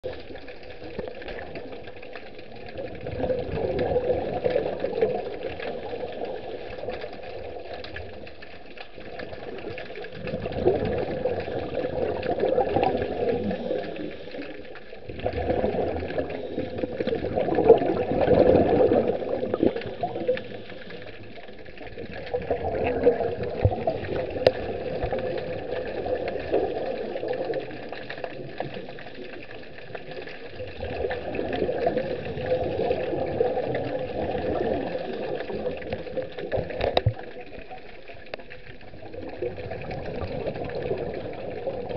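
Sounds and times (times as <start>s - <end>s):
scuba bubbles bursting underwater: 0.0s - 41.9s.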